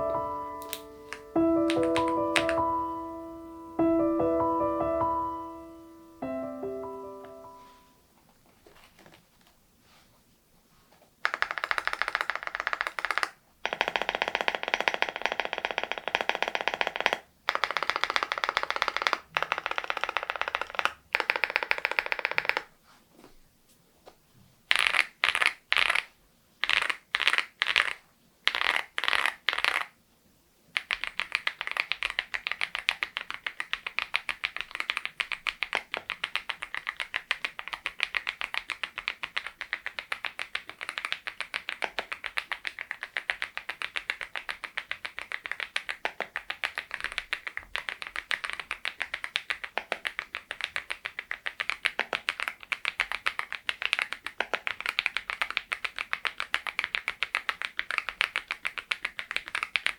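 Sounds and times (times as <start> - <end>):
mechanical keyboard typing: 0.0 - 2.9, 11.2 - 22.7, 24.7 - 29.9, 30.8 - 59.9.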